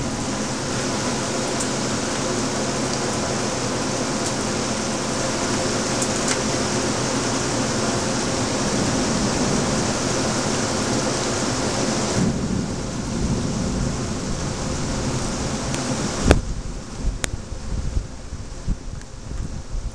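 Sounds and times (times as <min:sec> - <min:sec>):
low rumble: 0:00.0 - 0:04.2, 0:08.0 - 0:19.9
heavy rain pouring: 0:00.0 - 0:19.9.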